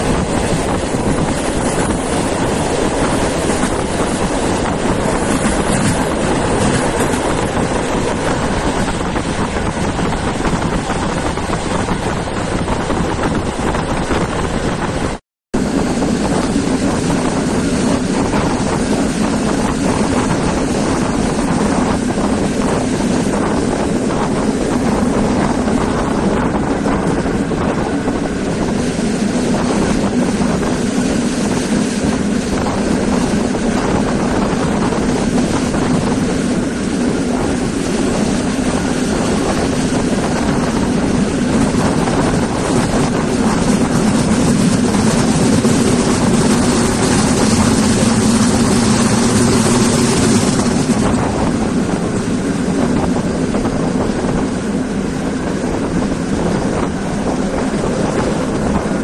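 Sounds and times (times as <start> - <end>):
train wheels rumbling on track: 0.0 - 59.0
wind on microphone: 0.0 - 59.0.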